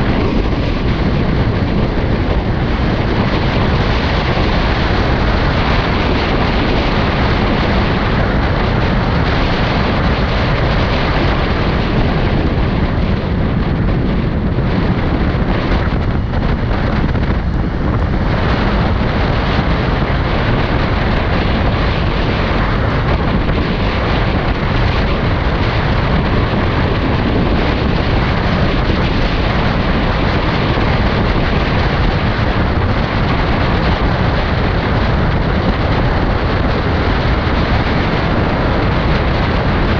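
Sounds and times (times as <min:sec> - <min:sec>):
motorcycle engine: 0:00.0 - 0:35.3
wind rushing over microphone: 0:00.0 - 0:39.9.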